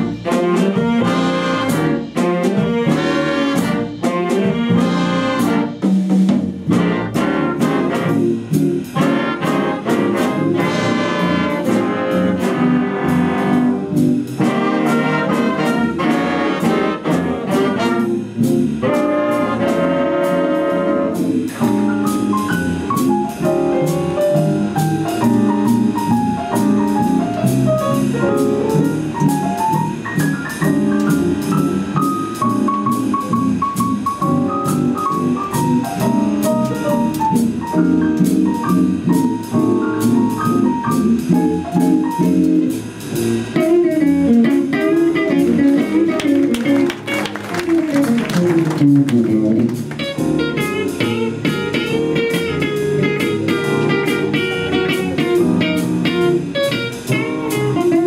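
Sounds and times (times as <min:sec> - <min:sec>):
cymbals: 0:00.0 - 0:48.6, 0:49.3 - 0:58.0
jazz band playing: 0:00.0 - 0:58.0.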